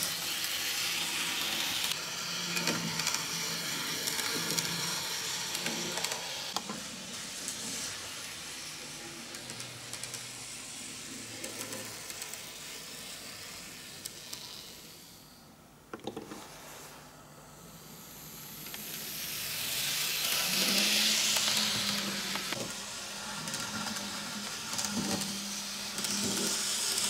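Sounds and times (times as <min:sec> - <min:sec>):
model train motor whirring: 0:00.0 - 0:15.4, 0:17.5 - 0:27.0.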